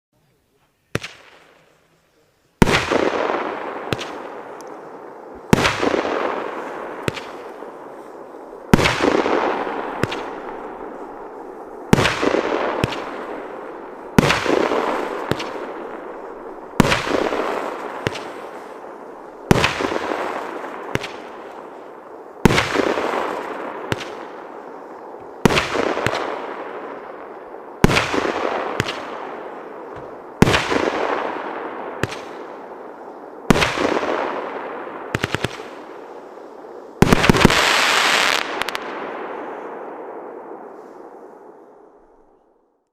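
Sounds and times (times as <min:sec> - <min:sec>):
firework bangs: 0:02.6 - 0:41.6
firework crackling: 0:02.6 - 0:41.6.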